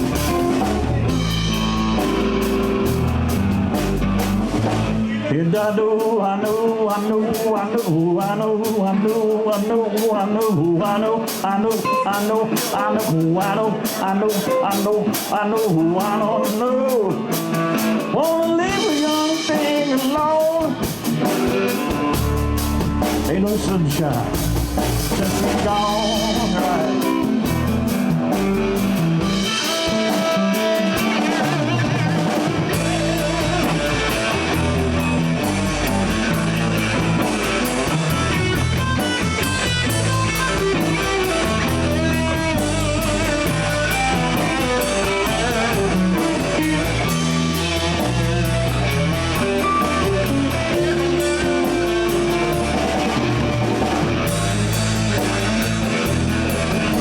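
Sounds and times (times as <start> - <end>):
electric guitar solo: 0.0 - 5.4, 16.3 - 57.0
bass guitar: 0.0 - 57.0
drum kit: 0.0 - 57.0.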